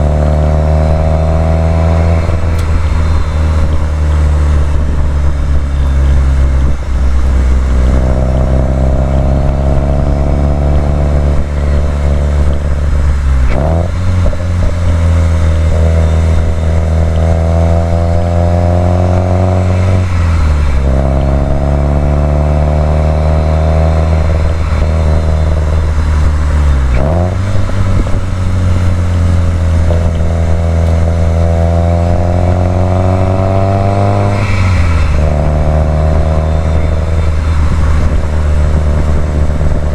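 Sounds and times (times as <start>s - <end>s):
car engine pulling under load: 0.0s - 39.9s.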